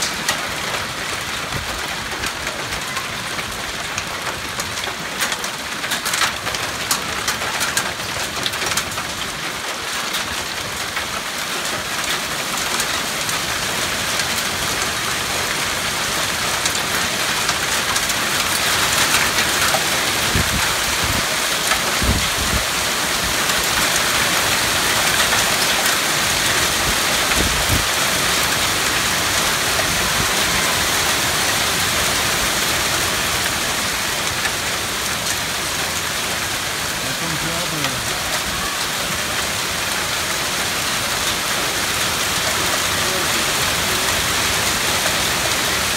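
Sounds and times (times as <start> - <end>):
hailstones ticking: 0.0 - 45.9
heavy rain and hail: 0.0 - 45.9.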